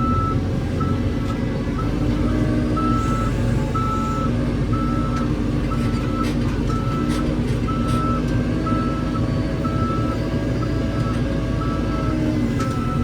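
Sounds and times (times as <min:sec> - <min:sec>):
reversing alarm beeping: 0:00.0 - 0:01.0, 0:02.8 - 0:13.0
diesel engine running: 0:00.0 - 0:13.0.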